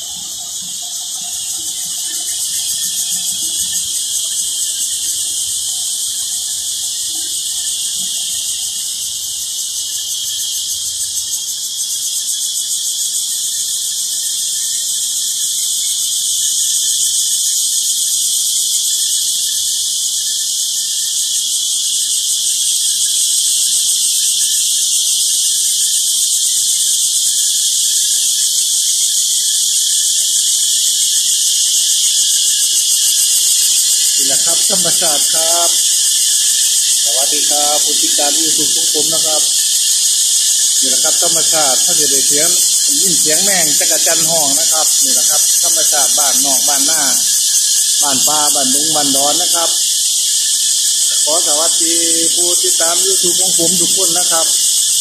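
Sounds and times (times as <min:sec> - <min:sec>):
cicadas buzzing chorus: 0:00.0 - 0:55.0.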